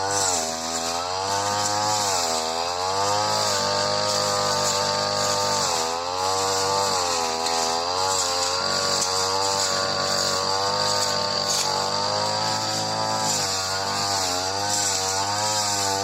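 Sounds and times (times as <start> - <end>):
brush cutter engine revving: 0.0 - 16.0.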